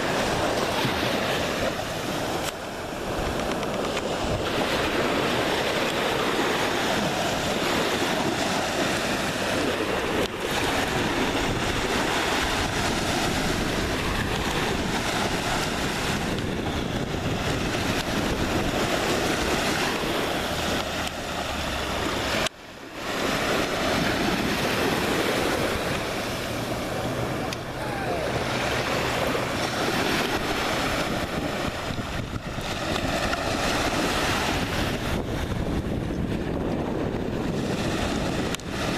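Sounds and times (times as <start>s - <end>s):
waves washing onto beach: 0.0s - 38.9s
wind rushing over microphone: 0.0s - 38.9s.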